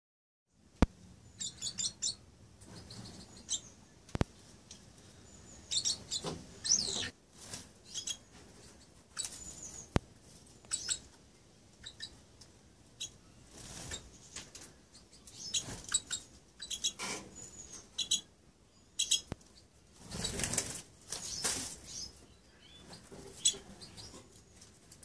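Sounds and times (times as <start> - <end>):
crossbills chirping: 1.2 - 4.0, 4.7 - 7.2, 7.8 - 24.7.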